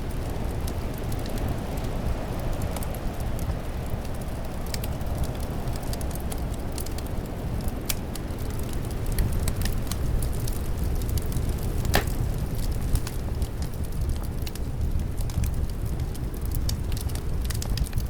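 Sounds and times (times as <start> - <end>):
low rush of wind: 0.0 - 18.0
wood fire crackling and popping: 0.0 - 18.0.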